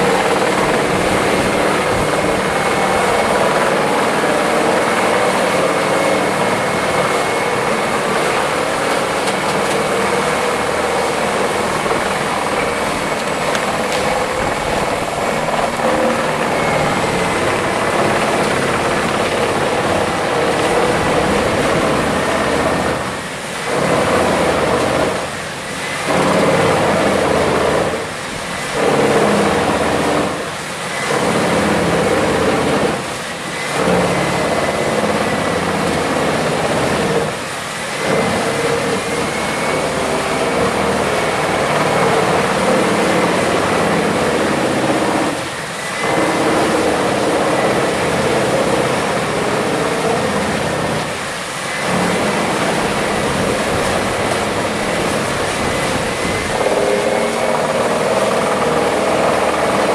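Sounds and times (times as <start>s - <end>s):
heavy wood-processing machine running: 0.0s - 59.9s.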